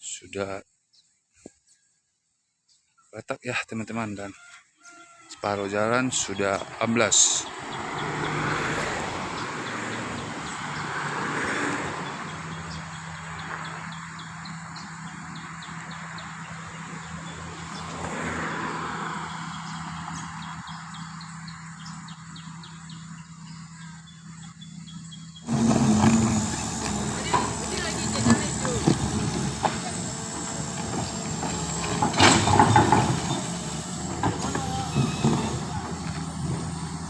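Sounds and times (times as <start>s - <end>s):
birds chirping: 2.6s - 37.0s
road vehicles passing: 5.3s - 37.0s.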